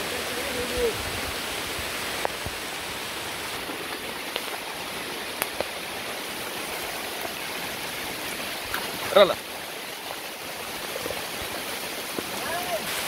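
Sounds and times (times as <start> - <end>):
fast-flowing river: 0.0 - 13.0
heavy rain downpour: 0.0 - 13.0.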